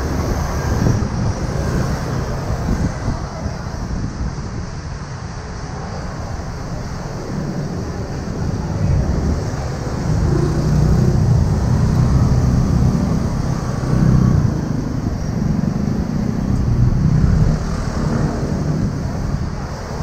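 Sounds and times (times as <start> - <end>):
cars and scooters passing: 0.0 - 20.0.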